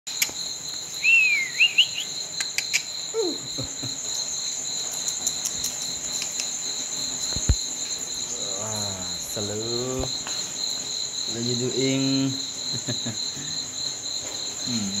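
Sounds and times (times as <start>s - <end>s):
crickets chirping: 0.1s - 15.0s.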